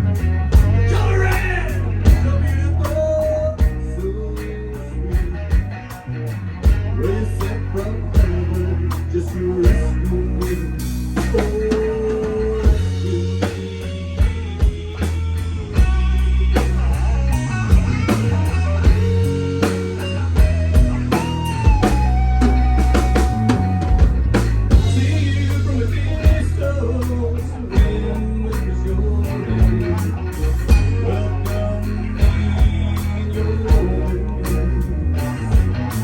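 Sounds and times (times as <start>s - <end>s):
bending lead guitar note: 0.0s - 36.0s
rock band playing: 0.0s - 36.0s.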